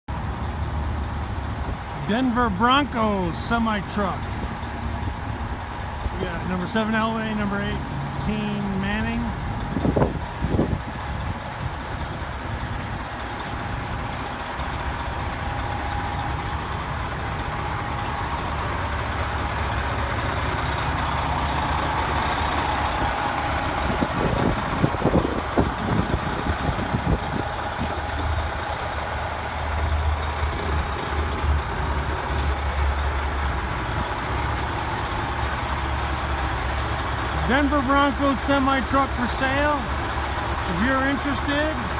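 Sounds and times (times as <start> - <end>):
diesel engine idling: 0.1 - 41.9.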